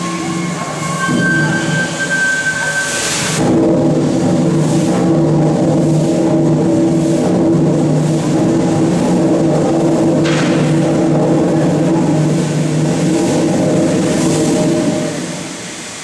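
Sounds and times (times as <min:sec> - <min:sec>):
mechanical hum: 0:00.0 - 0:16.0
steam engine beat and hiss: 0:00.0 - 0:16.0.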